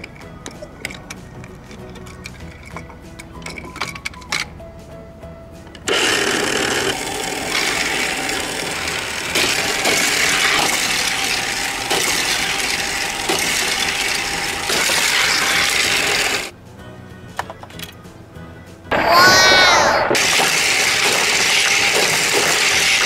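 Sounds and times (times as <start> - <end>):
toy cars rolling on plastic road: 0.0 - 4.5, 5.8 - 16.5, 19.1 - 23.0
toy motor and gears rattling: 0.0 - 4.5, 5.9 - 16.5, 18.9 - 23.0.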